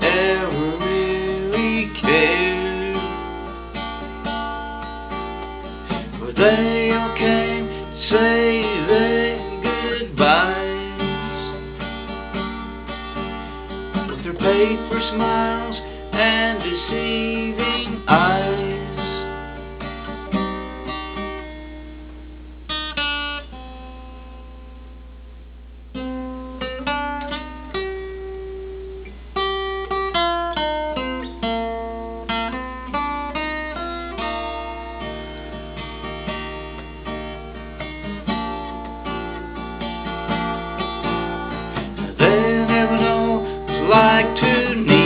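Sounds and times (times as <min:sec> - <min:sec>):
acoustic guitar picking and strumming: 0:00.0 - 0:25.0, 0:25.7 - 0:45.0.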